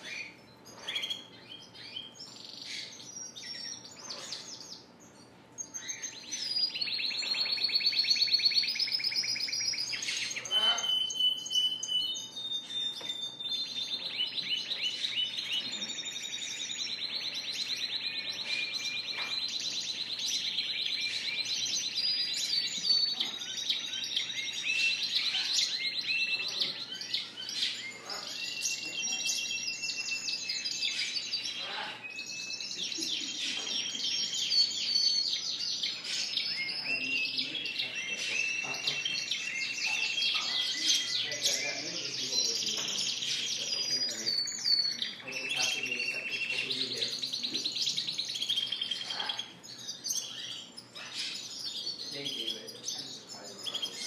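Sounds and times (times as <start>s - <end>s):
canaries singing trills: 0.0s - 54.0s.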